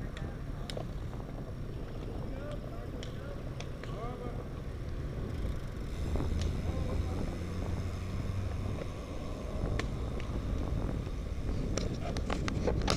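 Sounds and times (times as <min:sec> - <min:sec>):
bicycle tyres on asphalt: 0:00.0 - 0:12.9
wind rumbling on microphone: 0:00.0 - 0:12.9.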